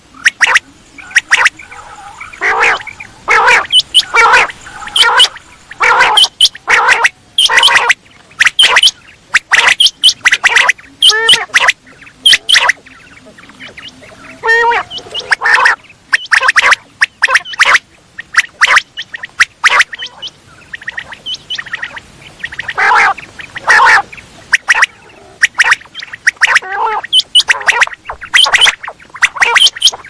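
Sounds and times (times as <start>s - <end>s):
quail calling: 0.0s - 30.0s
quail rattling trills: 0.2s - 30.0s.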